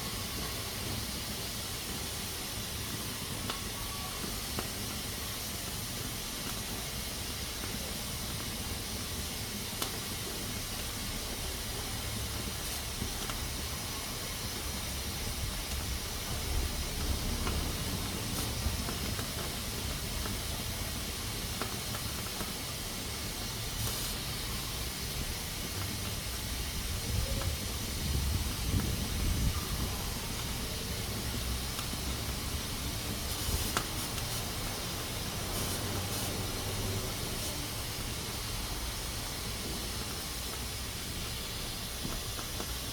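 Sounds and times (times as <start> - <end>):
pressure cooker hissing: 0.0 - 42.9.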